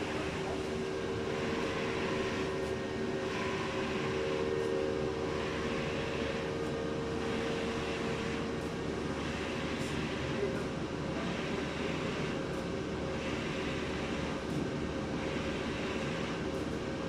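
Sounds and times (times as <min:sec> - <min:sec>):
printer machine hum: 0:00.0 - 0:17.0.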